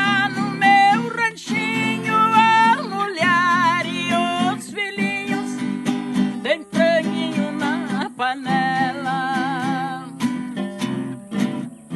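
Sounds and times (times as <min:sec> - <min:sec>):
woman singing: 0:00.0 - 0:10.5
strummed folk guitar: 0:00.0 - 0:11.9.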